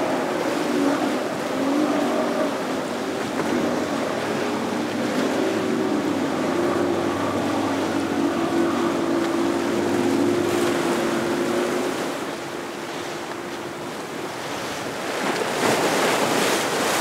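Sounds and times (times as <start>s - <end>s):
outboard engine drone: 0.0s - 17.0s
water rushing against hull: 0.0s - 17.0s.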